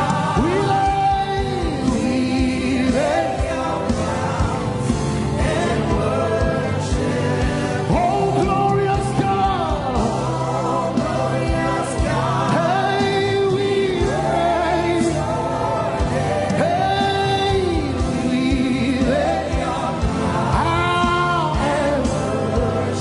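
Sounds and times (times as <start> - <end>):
band backing music: 0.0 - 23.0
drum beats: 0.0 - 23.0
voices singing held notes: 0.0 - 23.0.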